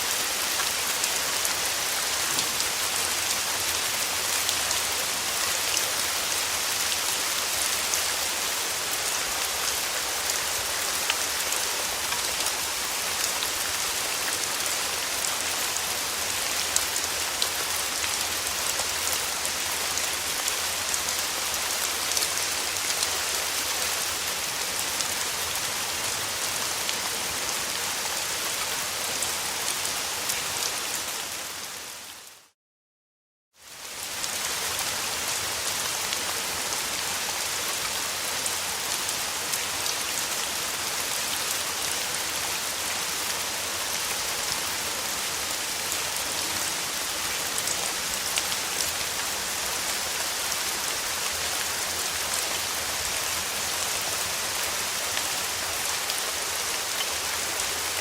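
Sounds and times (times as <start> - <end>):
steady rain hissing: 0.0 - 32.6, 33.6 - 58.0.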